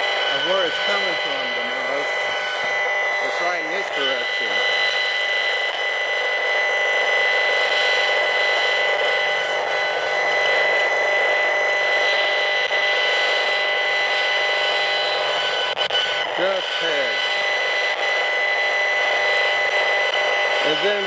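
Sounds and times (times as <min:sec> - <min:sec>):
steady electronic buzz: 0:00.0 - 0:21.0.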